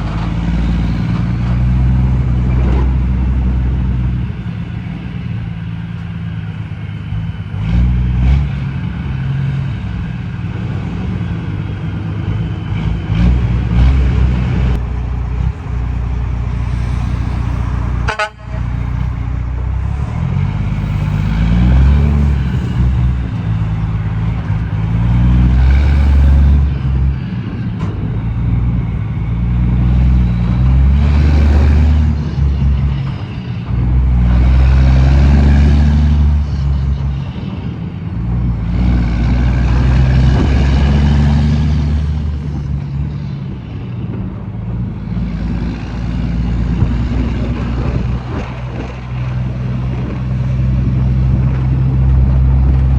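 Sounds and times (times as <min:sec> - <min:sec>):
diesel truck engine shifting gears: 0:00.0 - 0:52.9.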